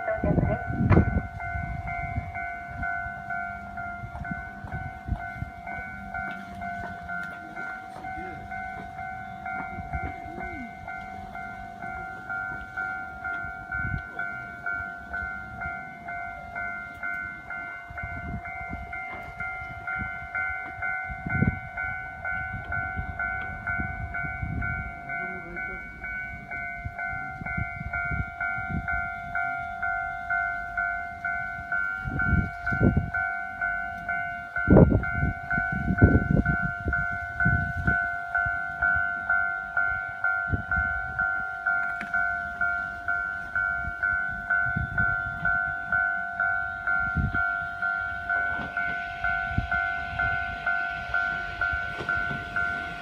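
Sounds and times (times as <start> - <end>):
level crossing bell clanging: 0.0 - 53.0
train rumbling past: 0.0 - 53.0.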